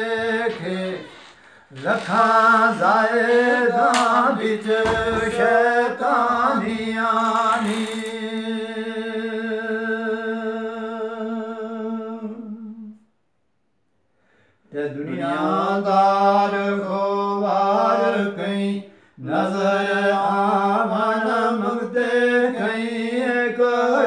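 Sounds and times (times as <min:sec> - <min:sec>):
man singing unaccompanied: 0:00.0 - 0:13.0, 0:14.7 - 0:24.0.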